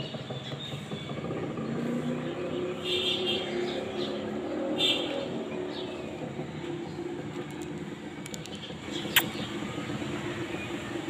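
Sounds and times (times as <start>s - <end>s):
street traffic: 0.0s - 11.0s
vehicle engine running: 0.0s - 11.0s.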